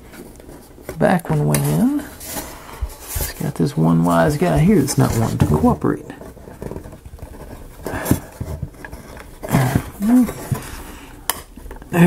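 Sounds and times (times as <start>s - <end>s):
handling noise: 0.0s - 12.0s.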